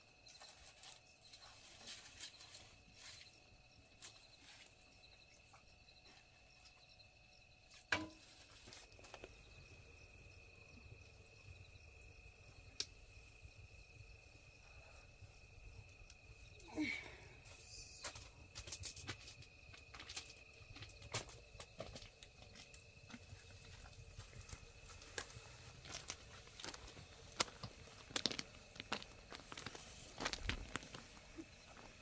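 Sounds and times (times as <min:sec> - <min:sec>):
high-pitched insect trill: 0:00.0 - 0:32.0.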